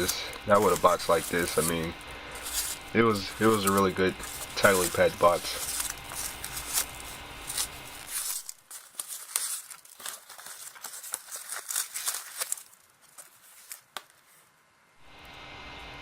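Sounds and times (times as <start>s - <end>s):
box packaging crinkling and rustling: 0.0s - 14.6s.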